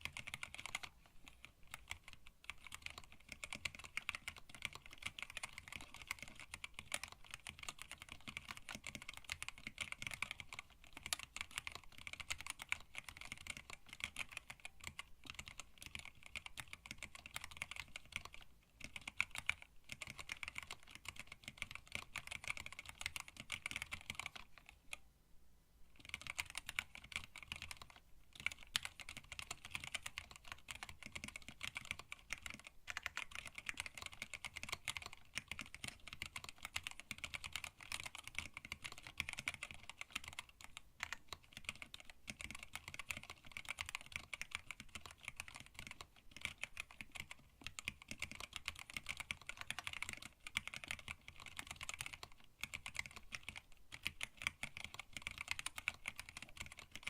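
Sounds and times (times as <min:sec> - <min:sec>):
fast typing on mechanical keyboard: 0:00.0 - 0:24.9, 0:26.0 - 0:57.0.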